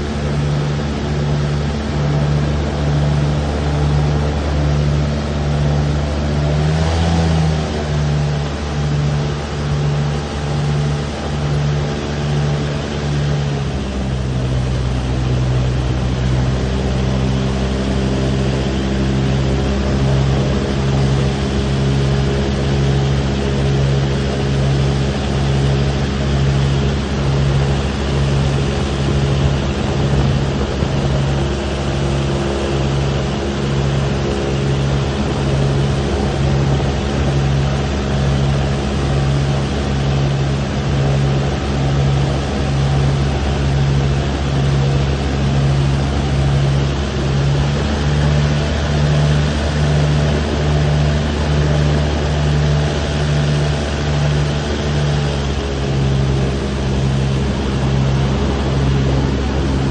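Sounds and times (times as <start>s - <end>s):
airboat engine droning: 0.0s - 59.9s.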